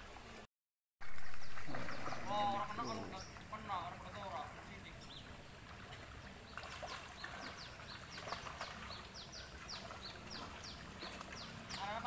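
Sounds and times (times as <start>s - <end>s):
faint outdoor background noise: 1.0s - 12.0s
bird chirping: 1.2s - 5.5s, 6.2s - 12.0s.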